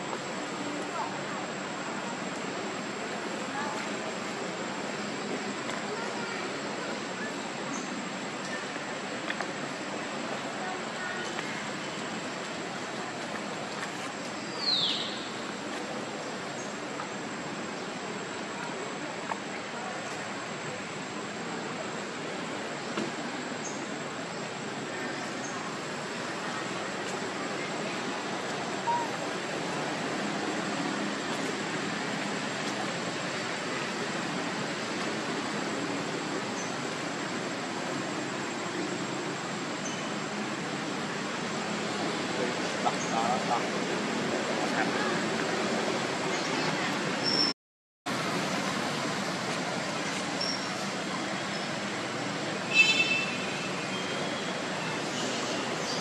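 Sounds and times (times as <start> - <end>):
outdoor background hiss: 0.0 - 47.5, 48.1 - 56.0.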